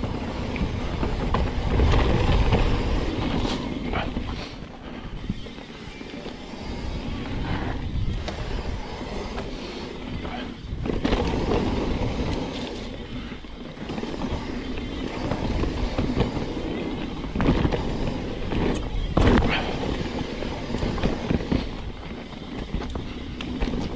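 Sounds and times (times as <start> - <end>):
mountain bike rattling over bumps: 0.0 - 23.9.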